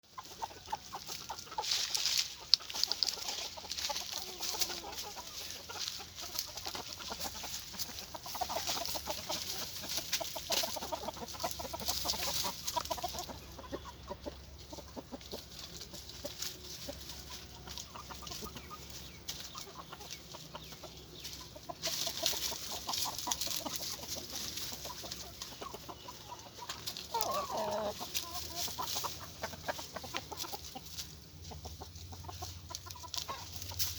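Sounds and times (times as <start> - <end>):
chicken drawn-out call: 0.0 - 33.9
chickens clucking: 0.0 - 33.9.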